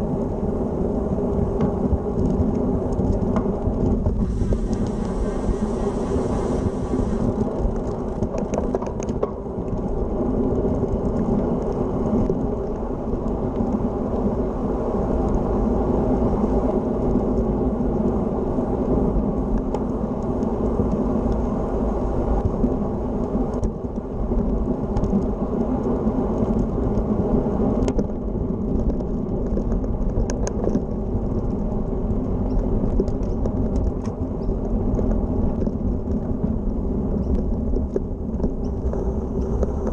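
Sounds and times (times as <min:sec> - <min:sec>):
bicycle rolling on asphalt: 0:00.0 - 0:39.9
wind rumble on microphone: 0:00.0 - 0:39.9.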